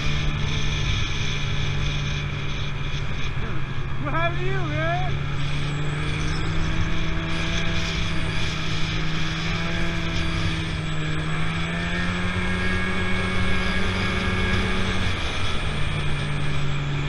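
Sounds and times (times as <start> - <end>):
track noise: 0.0 - 16.9
snowmobile engine running: 0.0 - 17.0.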